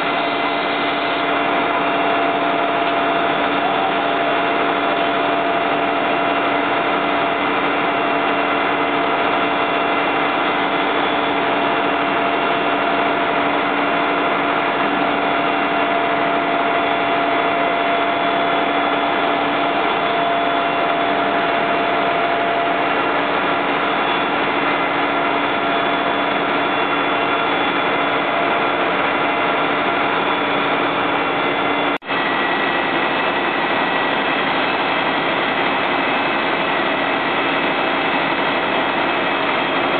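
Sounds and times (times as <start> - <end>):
fire engine diesel engines: 0.0 - 39.9
whining tones: 0.0 - 39.9.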